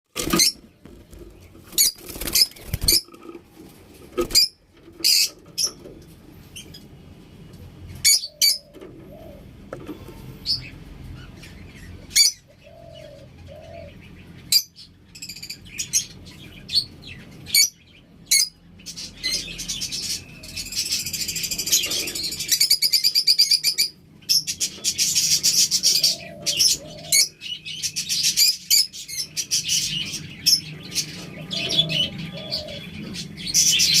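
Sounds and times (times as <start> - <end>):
lovebirds chirping and chattering: 0.2 - 34.0.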